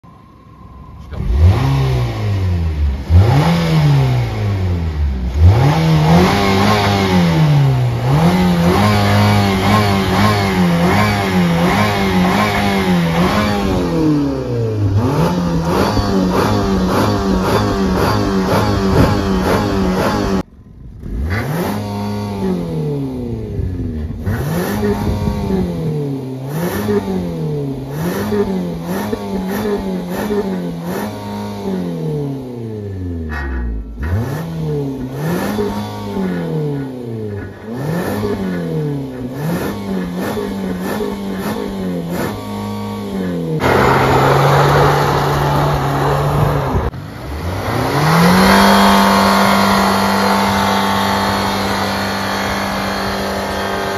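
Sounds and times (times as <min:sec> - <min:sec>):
car engine revving: 0:01.0 - 0:53.9.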